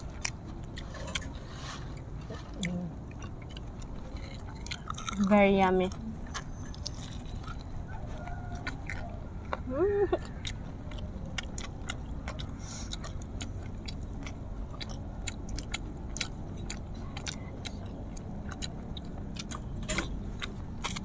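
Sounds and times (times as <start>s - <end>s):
chewing crunchy food: 0.0s - 21.0s.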